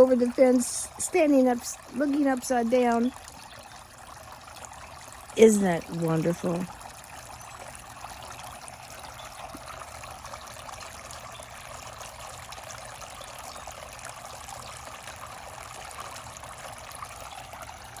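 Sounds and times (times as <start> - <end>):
water fountain trickling: 0.0 - 18.0.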